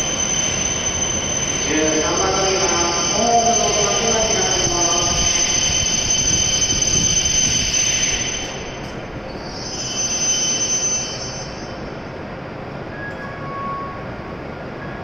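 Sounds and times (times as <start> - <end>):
train brakes squealing: 0.0 - 12.2, 12.8 - 15.0
rolling train rumble: 0.0 - 15.0.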